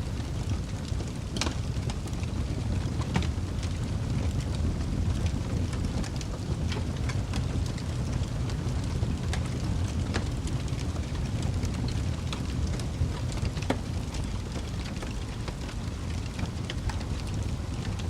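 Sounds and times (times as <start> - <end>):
fire crackling: 0.0 - 18.0
fire popping: 0.1 - 18.0.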